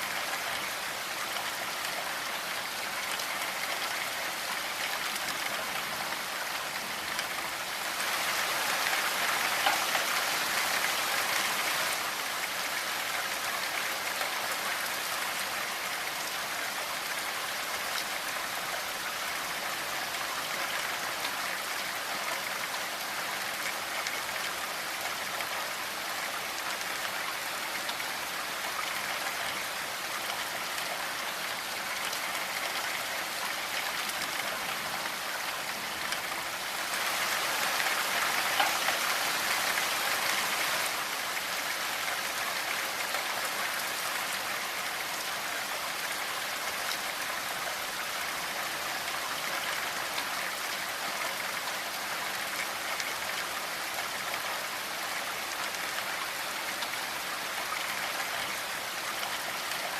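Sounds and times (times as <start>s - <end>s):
steady rainfall hiss: 0.0s - 59.9s.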